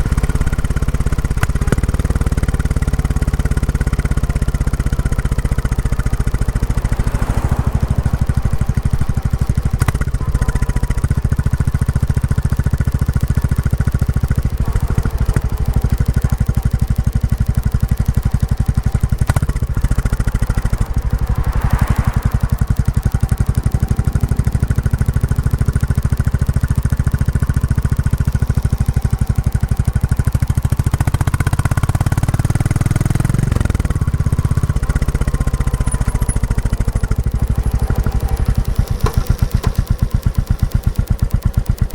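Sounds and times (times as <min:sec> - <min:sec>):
motorcycle engine thumping: 0:00.0 - 0:41.9.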